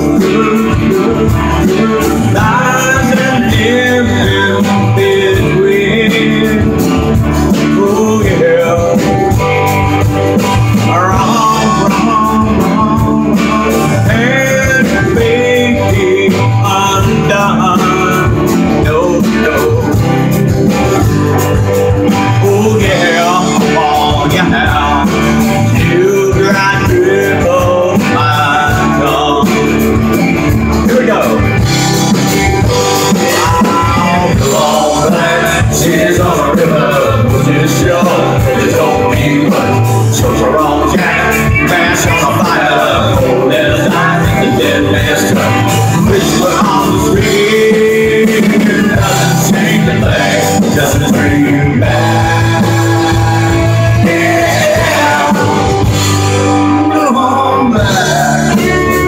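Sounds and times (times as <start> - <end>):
lead guitar bending notes: 0.0 - 59.0
live guitar band: 0.0 - 59.0.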